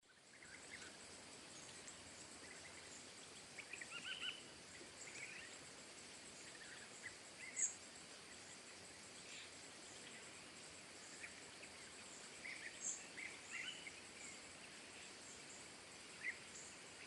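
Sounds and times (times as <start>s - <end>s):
faint hiss: 0.0s - 17.0s
songbirds chirping: 0.0s - 17.0s.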